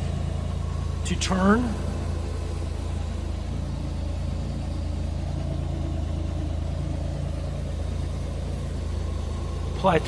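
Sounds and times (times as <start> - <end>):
utility vehicle engine idling: 0.0 - 10.0.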